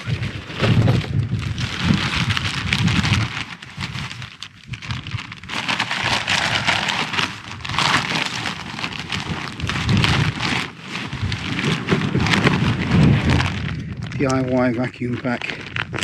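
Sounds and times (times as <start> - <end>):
low rumble: 0.0 - 16.0
rain on tent fabric: 0.0 - 16.0.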